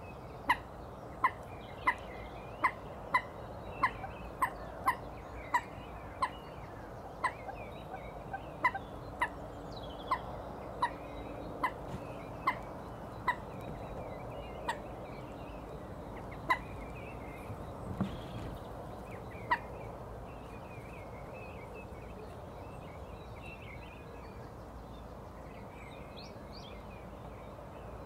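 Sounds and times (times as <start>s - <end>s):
faint birdsong: 0.0s - 28.0s.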